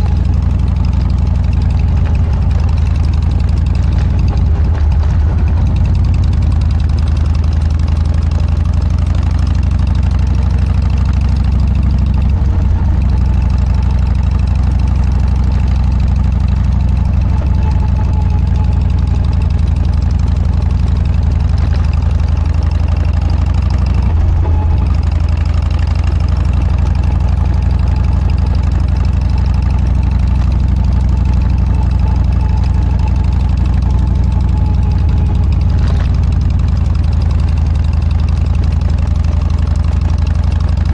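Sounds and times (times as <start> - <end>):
motorcycle engine exhaust note: 0.0 - 40.9.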